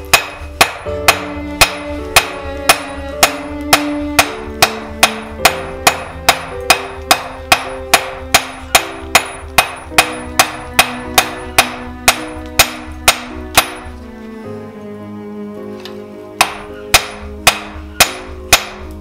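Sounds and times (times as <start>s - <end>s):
hammer striking hot steel on anvil: 0.0s - 14.0s, 16.4s - 19.0s
guitar music: 0.0s - 19.0s.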